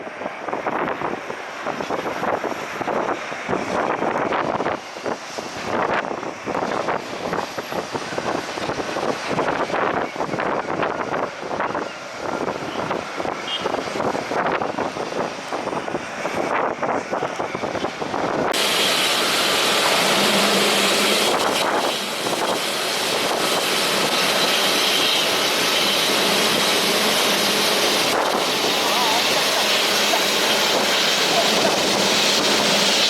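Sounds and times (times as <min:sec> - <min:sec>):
jet airliner engine noise: 0:00.0 - 0:33.0
wind gusting on microphone: 0:00.0 - 0:33.0.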